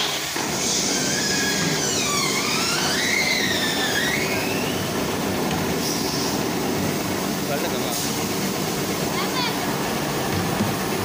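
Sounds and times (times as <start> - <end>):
workshop machinery running: 0.0 - 11.0.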